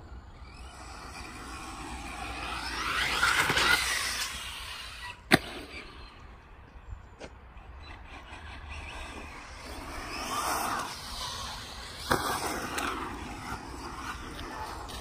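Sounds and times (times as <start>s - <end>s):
rc car motor and tyres: 0.0s - 15.0s.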